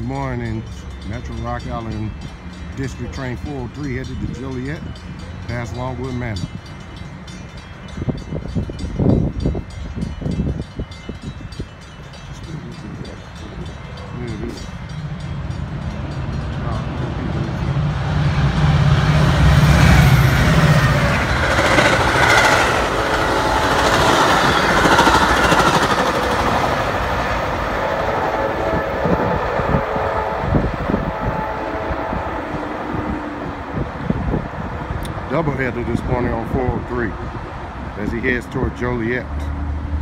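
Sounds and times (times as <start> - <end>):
locomotive engine rumble: 0.0 - 40.0
wheels rushing on rail: 0.0 - 40.0.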